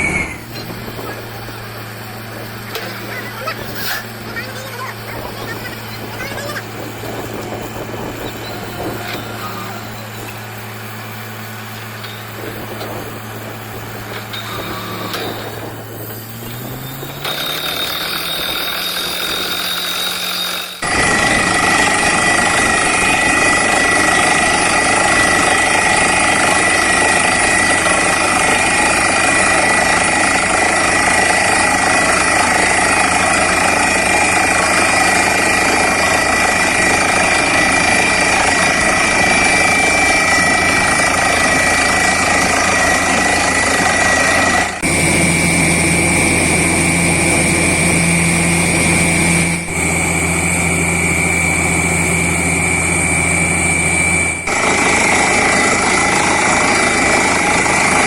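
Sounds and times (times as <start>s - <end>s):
drilling rig engine running: 0.0s - 58.0s
hammering roar of drilling: 0.0s - 58.0s.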